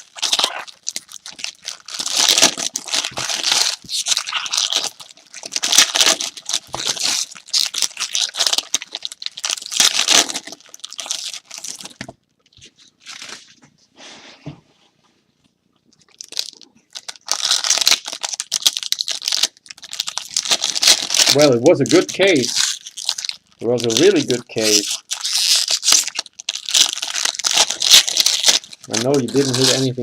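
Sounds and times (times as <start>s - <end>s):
plastic wrappers crinkling and tearing: 0.0s - 13.6s, 16.0s - 30.0s.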